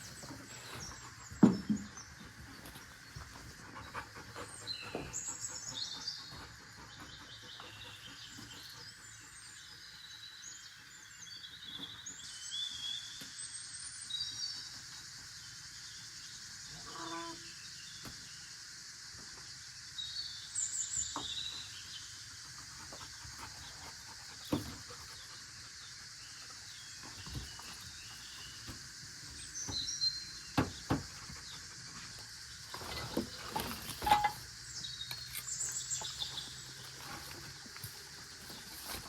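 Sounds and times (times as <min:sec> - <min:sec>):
insect hiss: 0:00.0 - 0:39.0.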